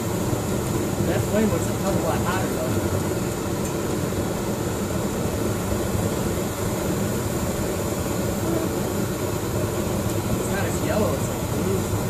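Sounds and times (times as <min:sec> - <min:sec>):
roaring flame column: 0:00.0 - 0:12.0.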